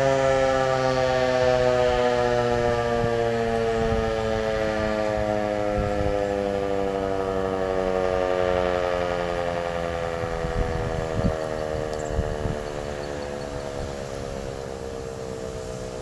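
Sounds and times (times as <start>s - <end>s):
warning siren winding down: 0.0s - 16.0s.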